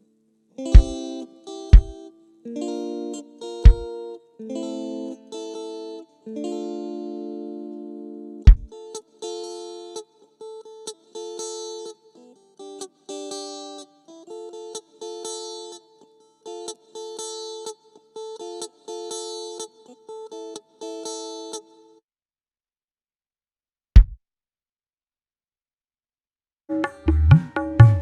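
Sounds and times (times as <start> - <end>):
plucked guitar music: 0.6 - 21.9, 26.7 - 28.0.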